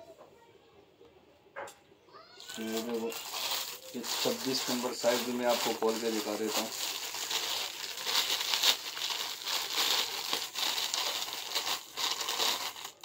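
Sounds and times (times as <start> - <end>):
plastic packaging crinkling: 2.4 - 13.0.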